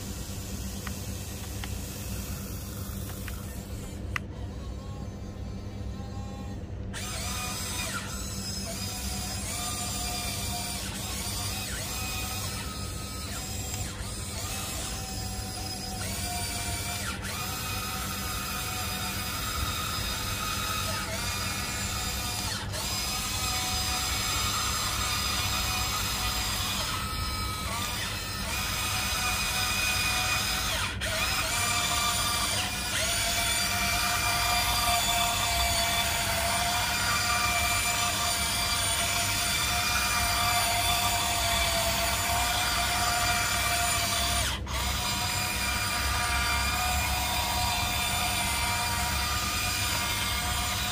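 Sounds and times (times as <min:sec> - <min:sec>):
toy excavator motors whining: 0:00.0 - 0:50.9.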